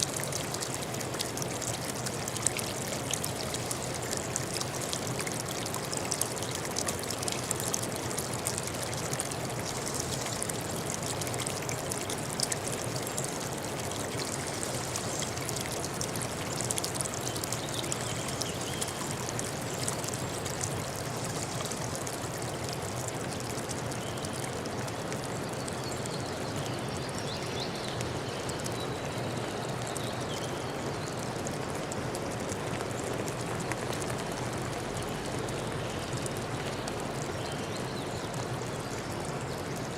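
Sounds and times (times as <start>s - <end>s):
small water splashes: 0.0s - 39.9s
stream babbling: 0.0s - 39.9s.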